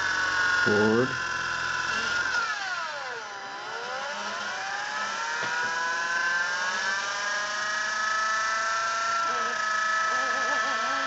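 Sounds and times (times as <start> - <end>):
toy helicopter motors whining: 0.0 - 11.0.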